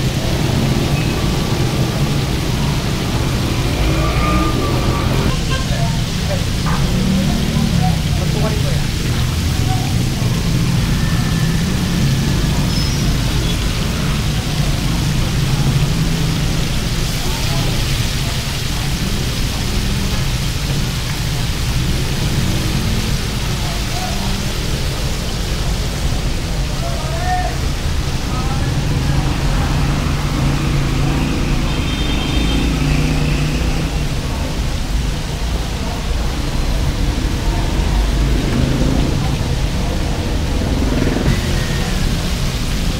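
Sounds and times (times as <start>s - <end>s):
road traffic engine rumble: 0.0s - 42.9s
street noise hiss: 0.0s - 42.9s.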